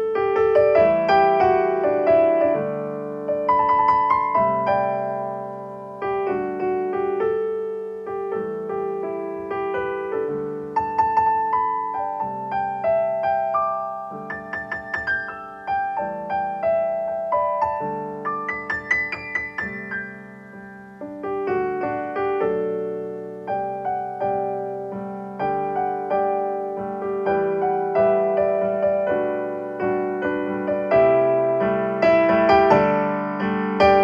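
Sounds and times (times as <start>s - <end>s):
solo piano: 0.0s - 34.0s.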